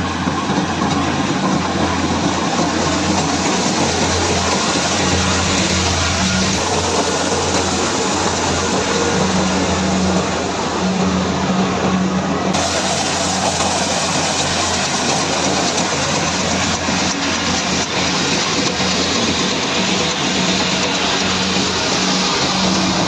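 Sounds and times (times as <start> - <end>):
combine harvester running: 0.0 - 23.0.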